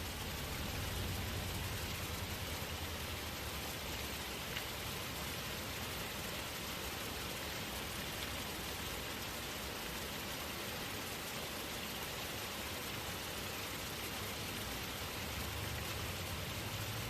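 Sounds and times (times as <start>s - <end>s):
small waterfall splashing: 0.0s - 17.0s.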